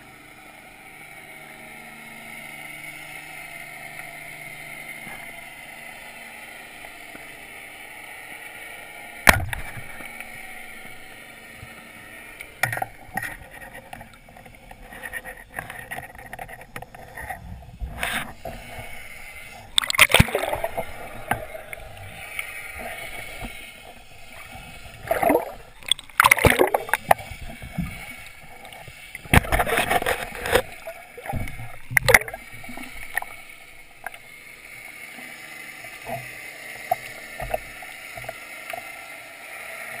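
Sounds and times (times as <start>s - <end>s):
underwater bubbling and gurgling: 2.4s - 40.0s
hiss of moving water: 7.8s - 40.0s.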